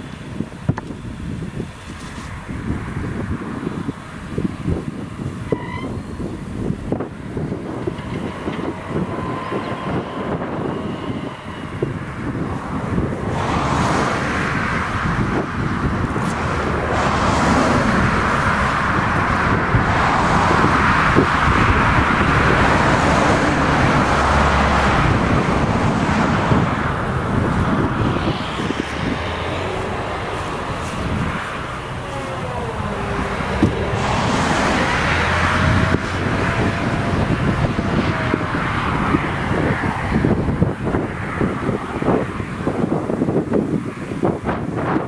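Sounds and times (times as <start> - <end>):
tractor hauling trailer: 0.0 - 45.0
forage harvester running: 0.2 - 41.5.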